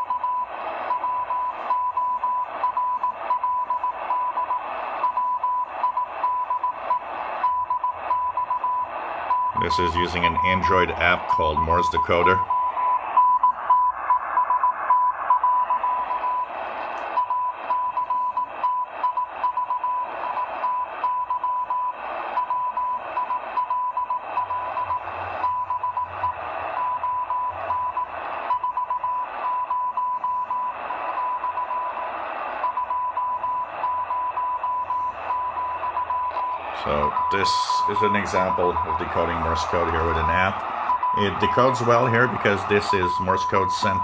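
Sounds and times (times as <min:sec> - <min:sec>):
morse code tone: 0:00.0 - 0:16.6, 0:17.2 - 0:44.0
radio band noise: 0:00.0 - 0:44.0
static crackles: 0:00.0 - 0:44.0.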